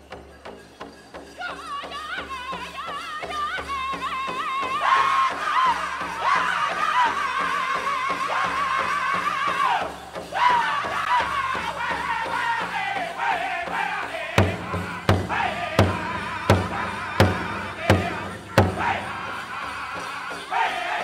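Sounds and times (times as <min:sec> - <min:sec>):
big drum beats: 0:00.0 - 0:21.0
group singing in wavering voices: 0:01.3 - 0:21.0.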